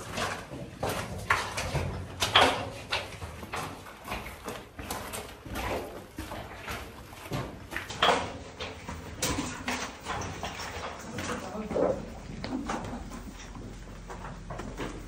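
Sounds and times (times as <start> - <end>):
footsteps on rocky path: 0.0 - 15.0.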